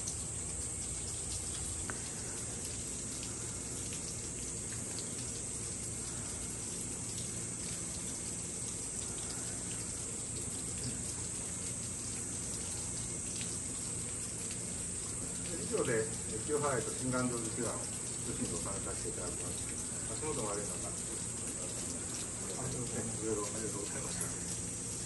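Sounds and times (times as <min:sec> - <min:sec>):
drips and patters: 0:00.0 - 0:25.0
steady rain falling: 0:00.0 - 0:25.0.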